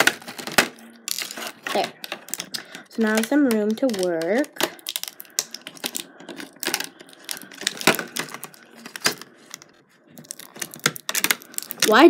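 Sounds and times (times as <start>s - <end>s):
scissors snipping plastic: 0.0s - 9.6s, 10.2s - 12.0s
stiff plastic crackling: 0.0s - 12.0s.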